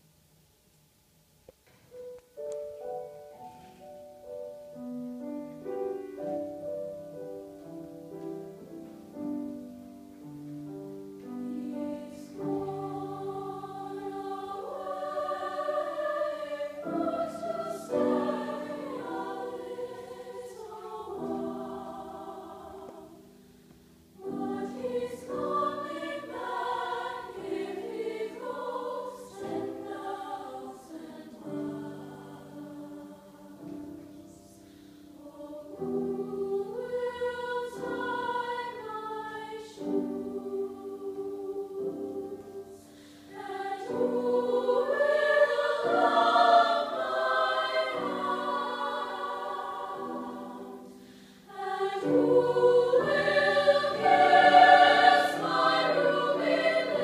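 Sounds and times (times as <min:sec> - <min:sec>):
choir singing in harmony: 0:02.7 - 0:57.0.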